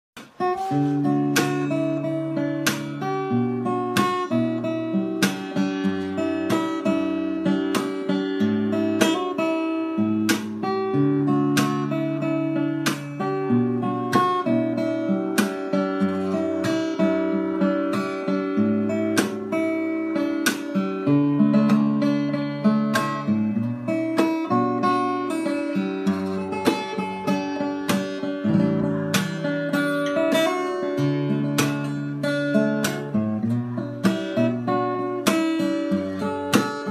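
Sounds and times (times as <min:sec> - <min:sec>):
acoustic guitar chords strummed: 0:00.2 - 0:36.9.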